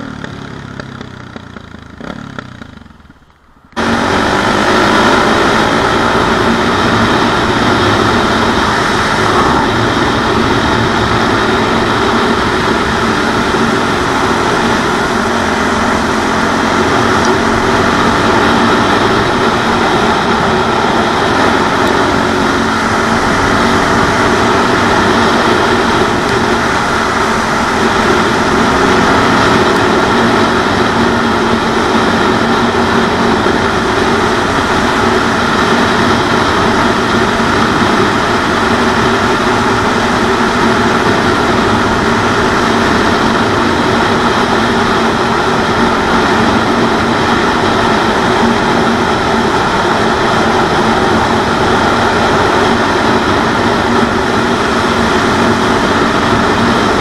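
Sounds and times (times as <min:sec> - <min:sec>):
motorcycle engine cruising: 0:00.0 - 0:57.0
wind rush on microphone: 0:03.8 - 0:57.0.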